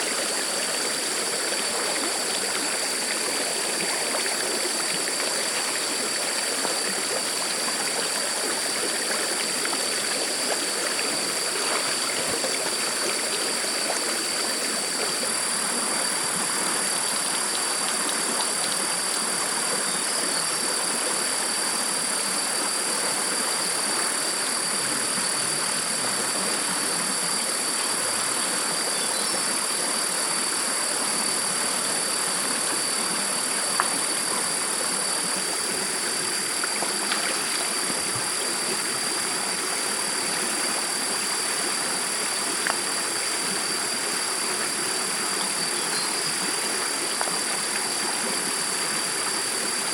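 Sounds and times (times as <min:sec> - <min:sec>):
stream water flowing: 0:00.0 - 0:49.9.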